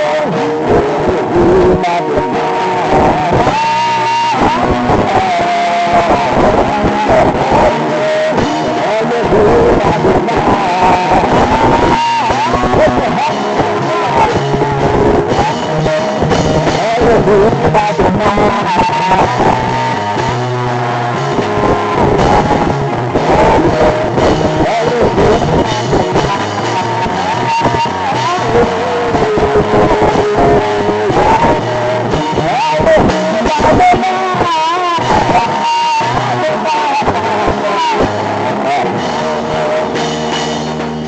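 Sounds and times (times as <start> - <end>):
band music with guitar: 0.0 - 41.0.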